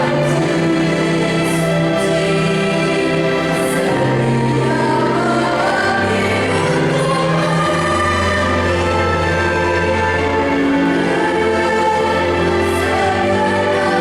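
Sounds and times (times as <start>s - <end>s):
choir singing long chords: 0.0s - 14.0s.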